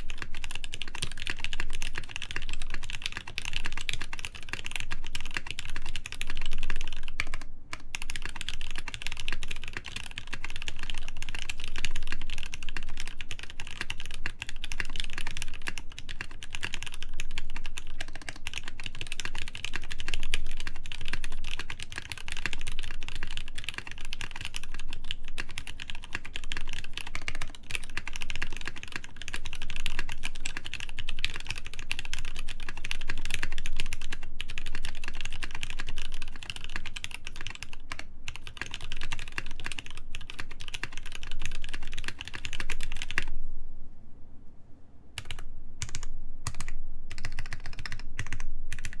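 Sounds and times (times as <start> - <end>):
mechanical keyboard typing: 0.0 - 43.3, 45.2 - 49.0.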